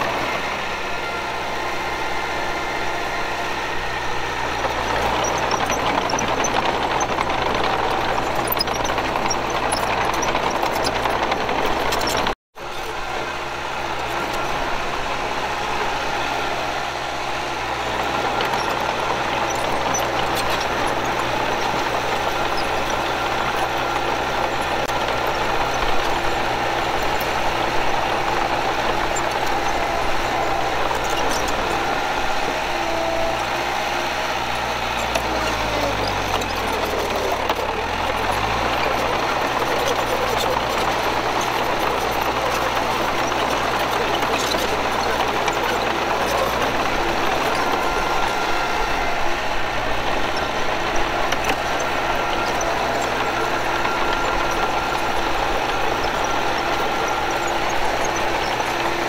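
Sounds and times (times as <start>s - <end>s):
diesel engines of earthmoving machines: 0.0s - 59.0s.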